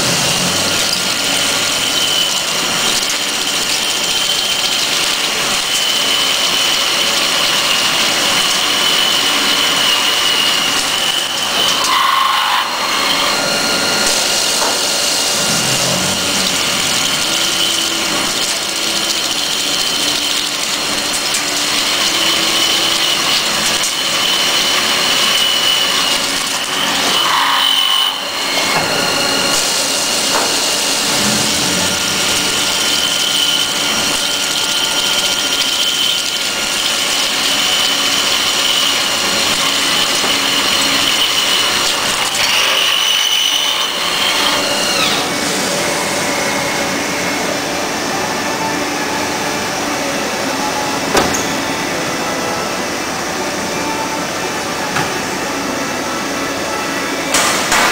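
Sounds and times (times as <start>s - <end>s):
coolant hissing and splashing: 0.0s - 47.0s, 57.3s - 57.9s
drill spindle whine: 0.0s - 57.9s.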